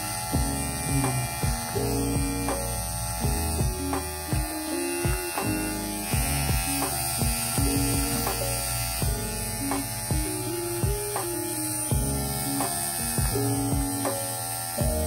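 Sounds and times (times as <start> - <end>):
hair clipper humming: 0.0 - 15.0.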